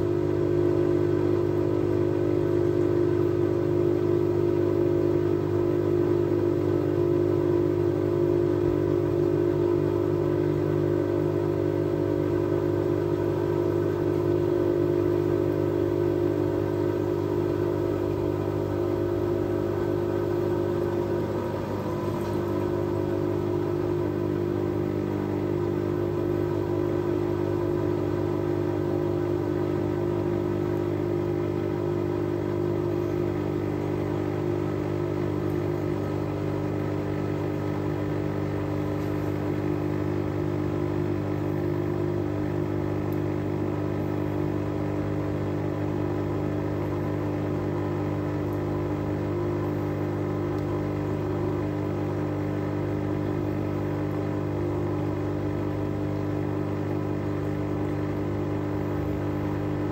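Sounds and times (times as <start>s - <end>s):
washing machine motor hum: 0.0s - 59.9s.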